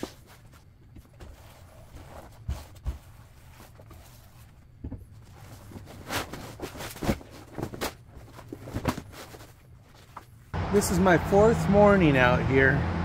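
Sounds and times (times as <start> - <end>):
vinyl rustling: 0.0 - 10.5.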